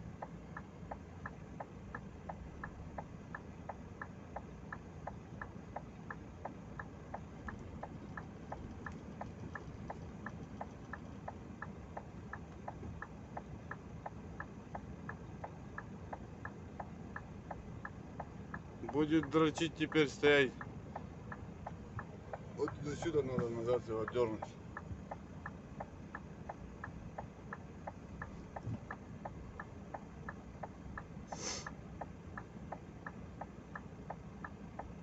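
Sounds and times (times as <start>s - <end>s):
diesel engine idling hum: 0.0s - 35.0s
turn signal clicking: 0.0s - 35.0s.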